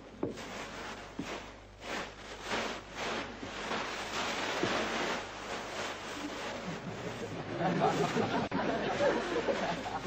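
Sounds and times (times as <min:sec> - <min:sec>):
plastic wrap rustling: 0:00.0 - 0:10.0.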